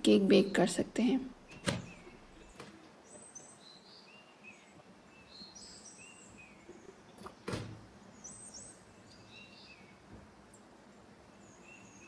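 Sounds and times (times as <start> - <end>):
faint background hiss: 0.0 - 12.0
small birds chirping: 0.0 - 12.0.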